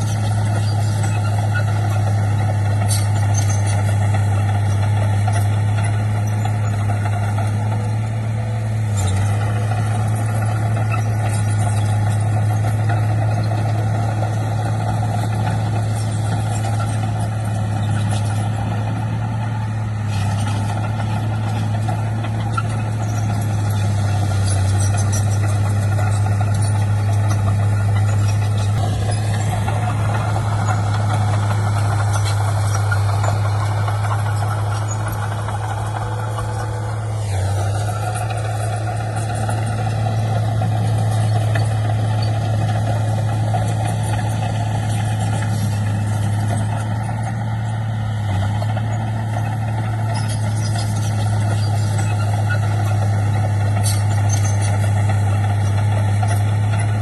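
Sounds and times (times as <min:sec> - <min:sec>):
diesel engine running steadily: 0:00.0 - 0:57.0.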